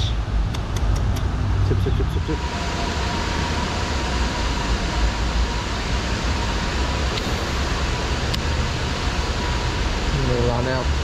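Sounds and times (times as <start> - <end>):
road traffic noise: 0.0 - 11.0
faint steady whine: 1.4 - 11.0.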